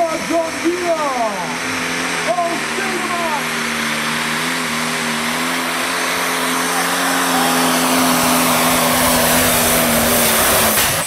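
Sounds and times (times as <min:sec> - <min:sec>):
tractor diesel engine at high revs: 0:00.0 - 0:11.0.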